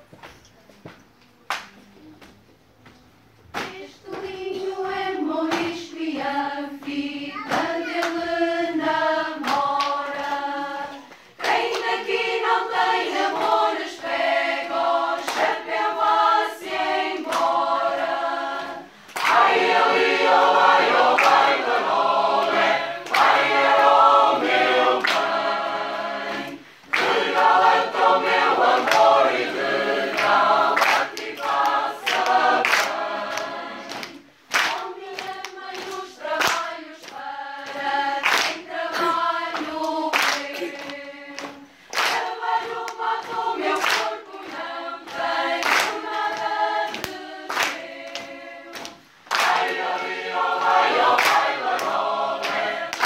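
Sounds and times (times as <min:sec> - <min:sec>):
mixed choir singing folk song: 0:03.4 - 0:53.0.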